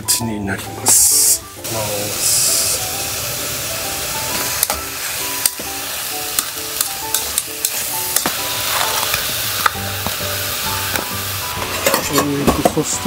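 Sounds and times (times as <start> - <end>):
background music: 0.0 - 13.0
meat sizzling in a pot: 0.9 - 13.0.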